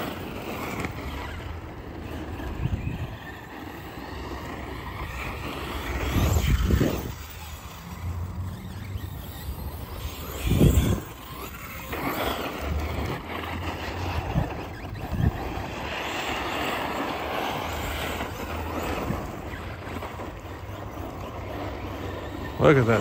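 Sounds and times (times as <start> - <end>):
toy truck motor whirring: 0.0 - 23.0
wind buffeting microphone: 0.4 - 23.0.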